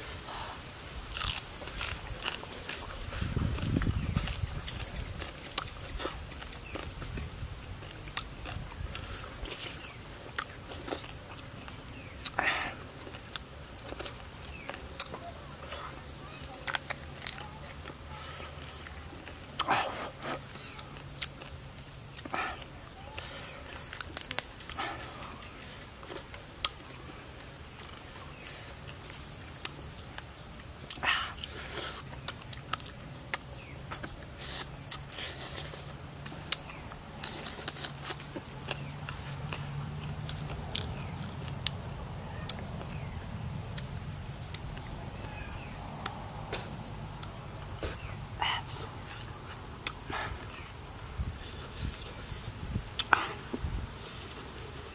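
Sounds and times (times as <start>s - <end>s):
chewing and eating by hand: 1.1s - 54.9s.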